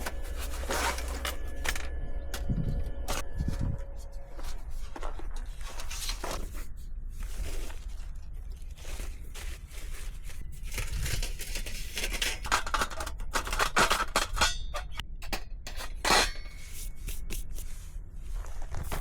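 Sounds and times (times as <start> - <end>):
objects being handled: 0.0 - 19.0.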